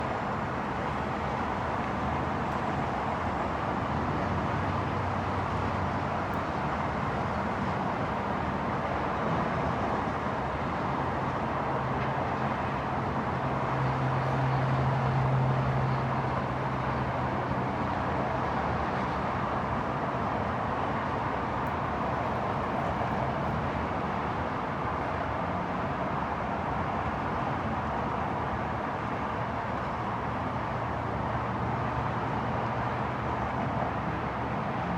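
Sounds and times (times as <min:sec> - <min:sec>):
outdoor traffic noise: 0:00.0 - 0:34.9.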